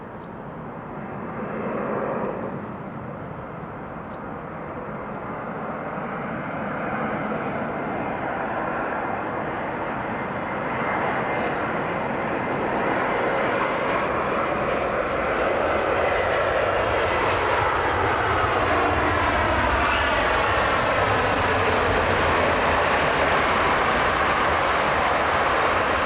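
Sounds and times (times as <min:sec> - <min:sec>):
airliner engines drone: 0:00.0 - 0:26.0.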